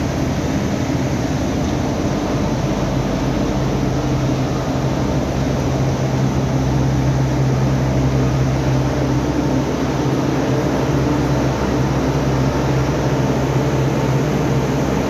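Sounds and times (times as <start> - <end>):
industrial machinery drone: 0.0 - 15.0.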